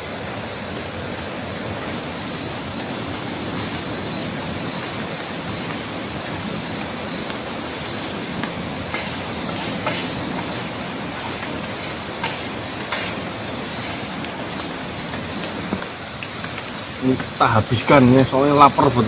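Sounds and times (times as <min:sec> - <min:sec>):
high whine: 0:00.0 - 0:19.0
steady rushing noise: 0:00.0 - 0:19.0.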